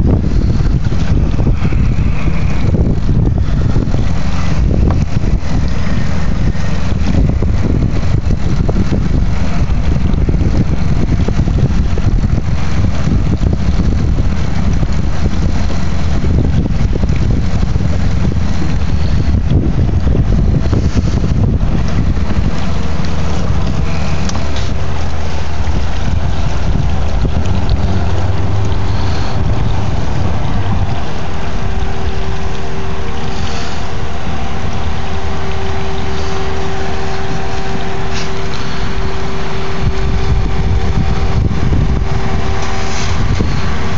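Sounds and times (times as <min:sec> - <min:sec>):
boat motor humming: 0:00.0 - 0:43.9
wind rumble on microphone: 0:00.0 - 0:43.9.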